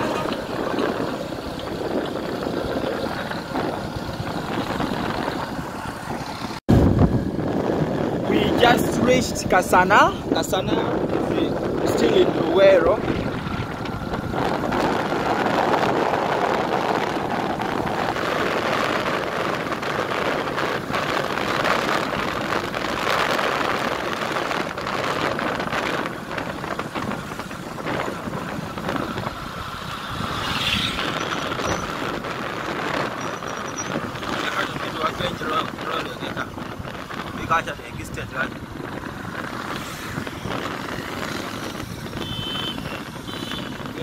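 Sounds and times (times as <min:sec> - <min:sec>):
motorcycle engine: 0:00.0 - 0:44.0
wind buffeting microphone: 0:00.0 - 0:44.0.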